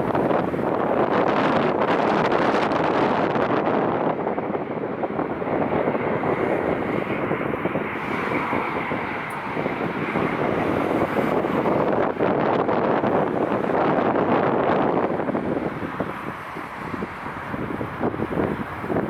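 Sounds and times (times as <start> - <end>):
jet airliner engines passing: 0.0 - 19.0
wind buffeting microphone: 0.0 - 19.0.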